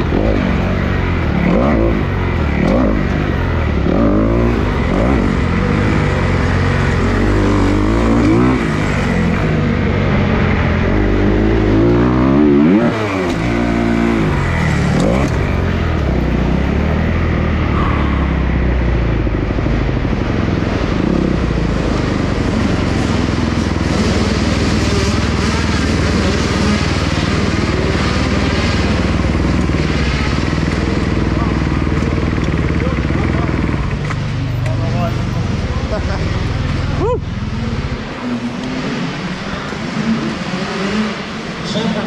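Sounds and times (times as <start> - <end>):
motocross engine revving: 0.0 - 42.0.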